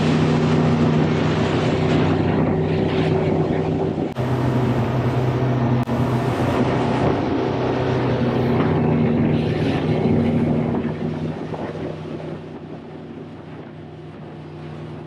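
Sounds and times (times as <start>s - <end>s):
boat engines running: 0.0s - 15.0s
wind and water noise: 0.0s - 15.0s.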